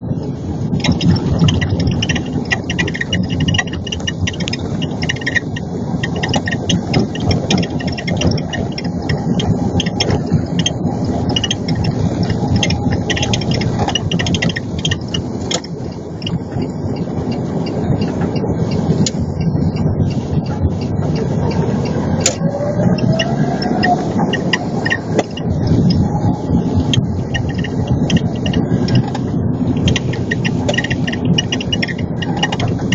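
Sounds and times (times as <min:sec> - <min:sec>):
car rumble: 0:00.0 - 0:32.9
car suspension creaking: 0:00.0 - 0:32.9.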